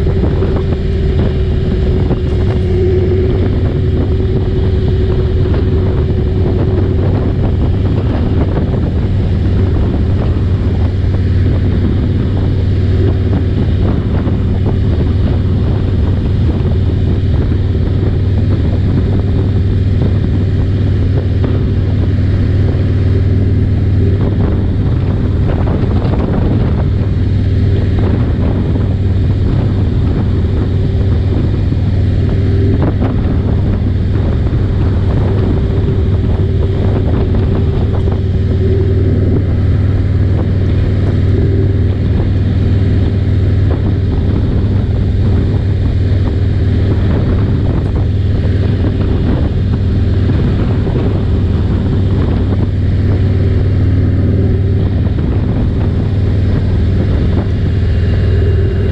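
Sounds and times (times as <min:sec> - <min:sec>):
motorcycle engine cruising: 0:00.0 - 0:58.9
wind noise on microphone: 0:00.0 - 0:58.9.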